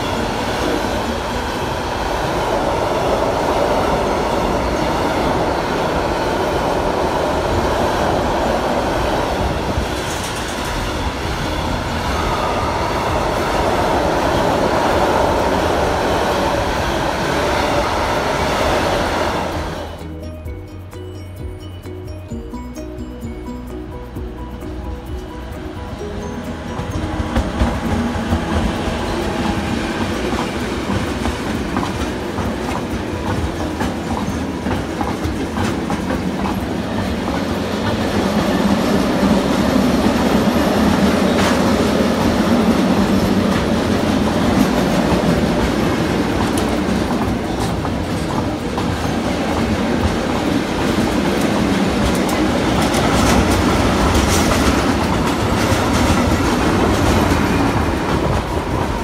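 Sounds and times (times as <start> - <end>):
wheels clicking over rail joints: 0.0 - 19.1, 24.5 - 59.0
freight train rolling past: 0.0 - 59.0.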